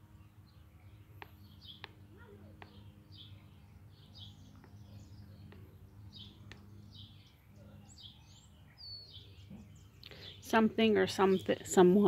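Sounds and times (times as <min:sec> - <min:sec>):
faint bird chirps: 0:00.0 - 0:10.6
low steady hum: 0:00.0 - 0:12.0.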